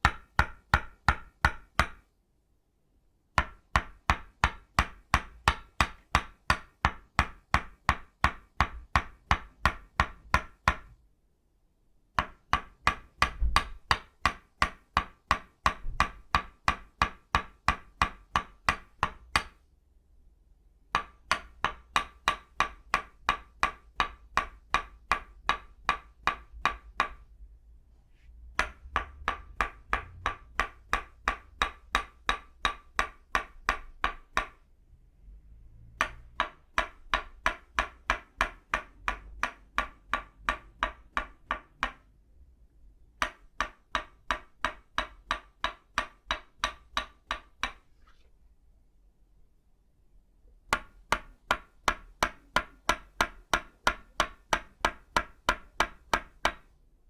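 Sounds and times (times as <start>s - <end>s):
wooden mallet tapping wooden stake: 0.0s - 2.0s, 3.4s - 10.9s, 12.2s - 19.6s, 20.9s - 27.2s, 28.6s - 34.6s, 36.0s - 42.1s, 43.2s - 47.8s, 50.7s - 56.7s.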